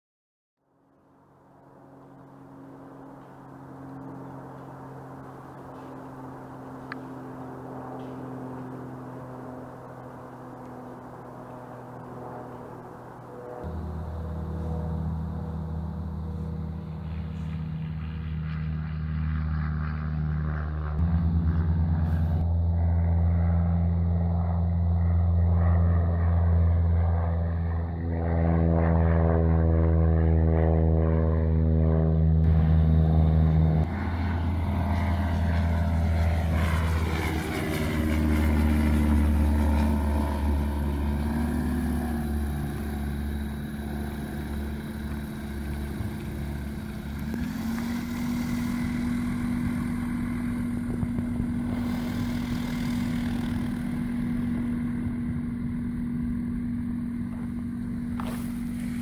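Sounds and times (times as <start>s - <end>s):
propeller aircraft droning overhead: 0.6s - 59.0s.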